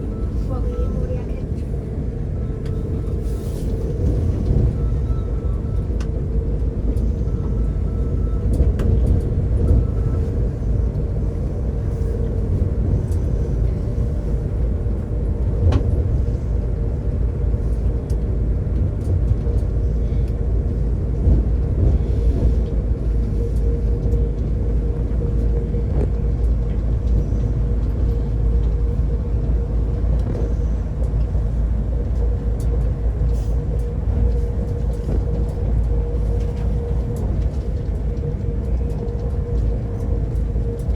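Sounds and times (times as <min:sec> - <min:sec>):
constant hum: 0:00.0 - 0:40.9
train rumble inside carriage: 0:00.0 - 0:40.9.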